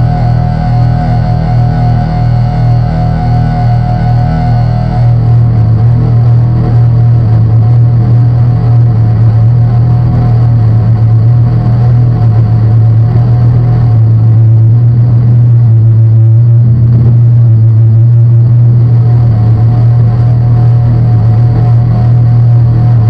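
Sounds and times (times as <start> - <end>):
synthesizer drone: 0.0 - 23.0.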